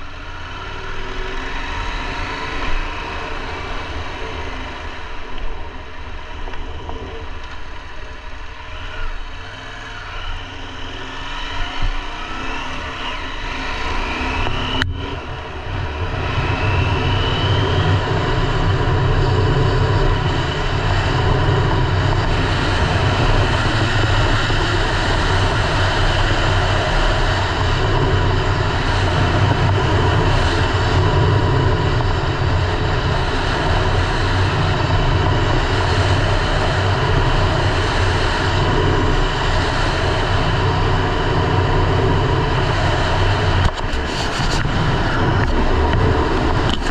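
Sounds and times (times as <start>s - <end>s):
wind rush: 0.0s - 46.9s.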